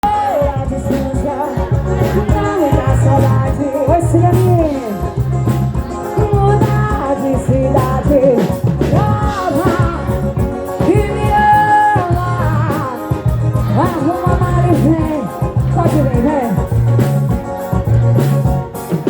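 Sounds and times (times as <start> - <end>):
person singing: 0.0 - 16.7
pulsing bass beat: 0.0 - 19.0.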